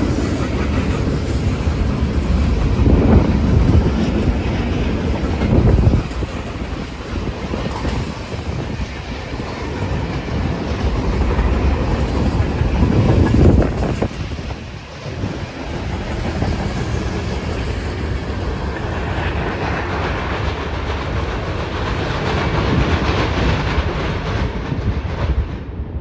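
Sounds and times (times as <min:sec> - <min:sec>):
wheels clacking over rail joints: 0:00.0 - 0:25.4
freight cars rumbling: 0:00.0 - 0:26.0.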